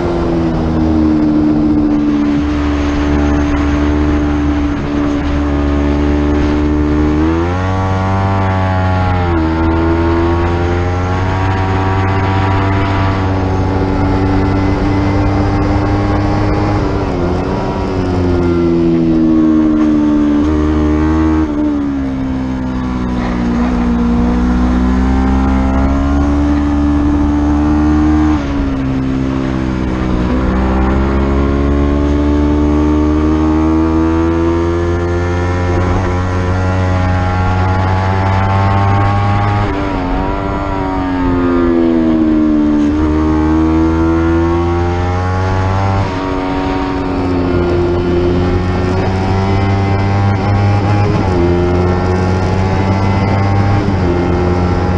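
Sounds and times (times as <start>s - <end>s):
racing motorcycle engine revving: 0.0s - 54.9s
wind noise: 0.0s - 54.9s.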